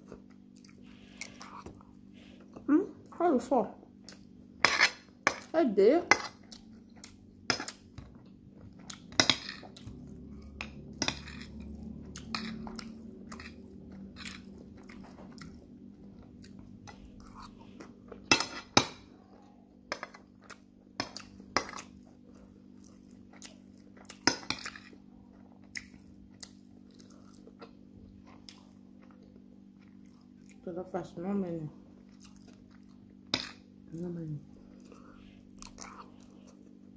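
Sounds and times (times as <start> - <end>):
chewing: 0.0 - 2.6, 6.2 - 18.3, 19.2 - 30.7, 32.0 - 33.6, 34.6 - 36.9
faint steady hum: 0.0 - 36.9.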